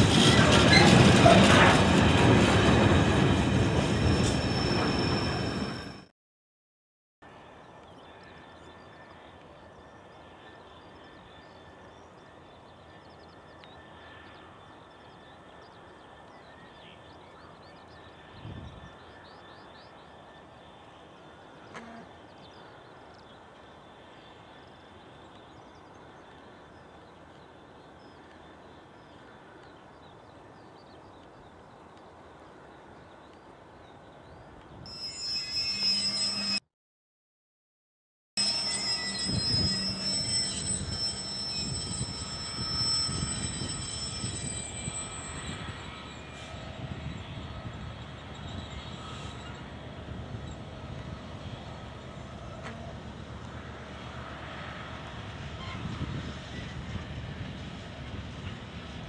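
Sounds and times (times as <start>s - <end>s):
approaching train: 0.0s - 6.1s, 7.3s - 36.6s, 38.4s - 59.0s.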